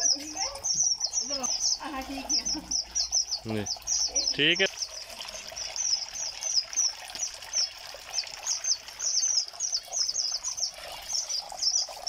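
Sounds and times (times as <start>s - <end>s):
small birds chirping: 0.0s - 12.0s
water trickling into a basin: 0.0s - 12.0s.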